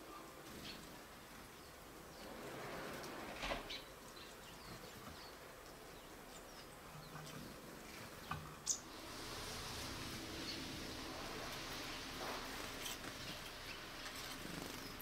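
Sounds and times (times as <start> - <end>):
small birds chirping: 0.0 - 2.5, 3.6 - 9.1, 10.2 - 10.9, 11.5 - 15.0.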